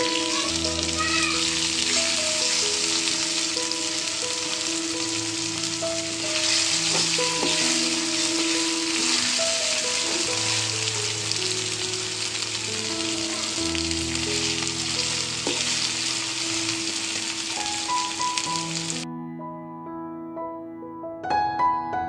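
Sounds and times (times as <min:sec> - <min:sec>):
fritters sizzling in hot oil: 0:00.0 - 0:19.0
quiet piano music: 0:00.0 - 0:22.0.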